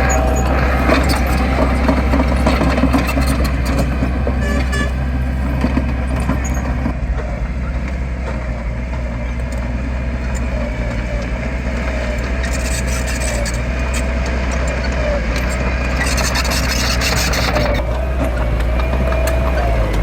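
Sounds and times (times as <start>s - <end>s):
diesel machinery engine running: 0.0s - 20.0s.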